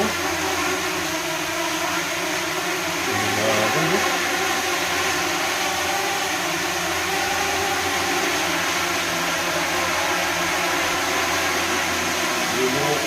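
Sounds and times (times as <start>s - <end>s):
electric fans and drone whir: 0.0s - 13.0s.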